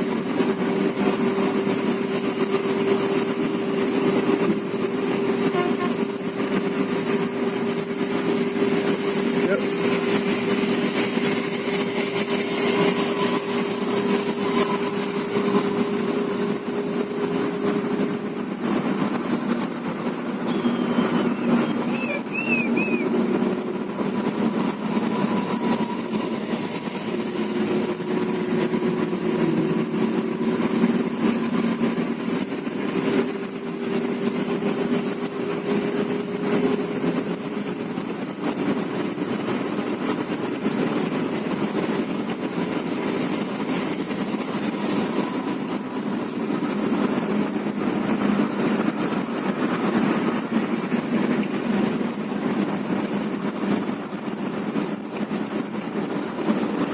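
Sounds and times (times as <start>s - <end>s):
bus engine hum: 0.0s - 56.9s
road noise: 0.0s - 56.9s.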